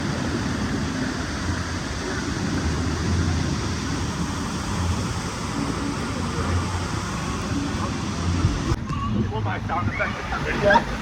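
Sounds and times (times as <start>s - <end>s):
rushing water and wind: 0.0s - 11.0s.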